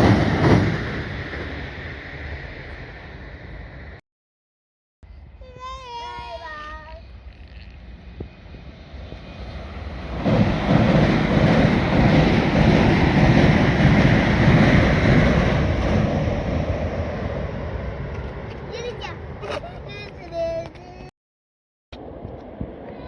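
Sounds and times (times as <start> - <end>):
train passing: 0.0 - 4.0, 5.1 - 21.1.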